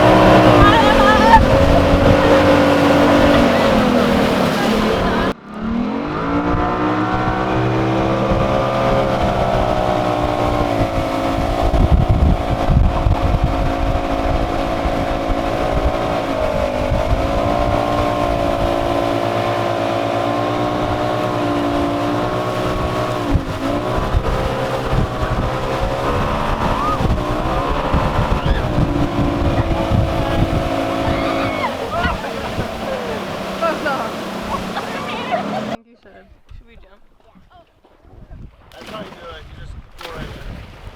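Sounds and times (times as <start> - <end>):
motorboat engine running: 0.0 - 35.8
wind buffeting microphone: 0.0 - 37.0, 38.0 - 40.9.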